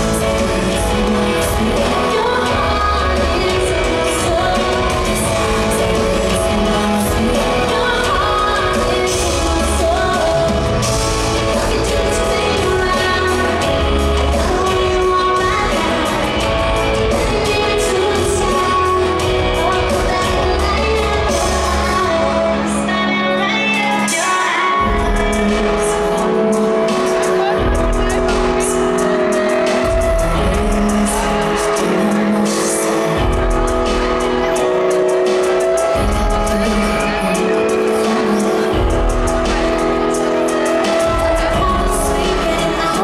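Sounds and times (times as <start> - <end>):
woman singing with band: 0.0 - 43.0.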